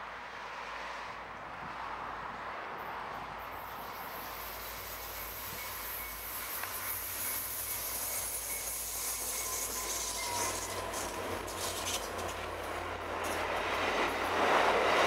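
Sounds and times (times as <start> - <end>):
diesel locomotive engines rumbling: 2.8 - 15.0.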